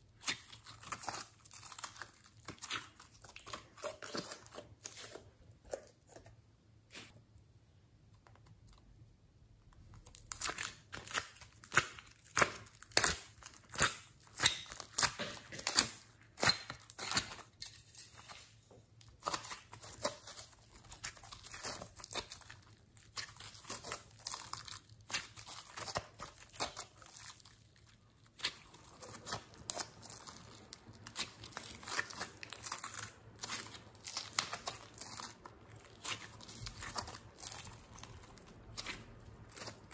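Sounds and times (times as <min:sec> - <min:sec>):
slime being kneaded by hand: 0:00.0 - 0:07.2, 0:09.6 - 0:39.9.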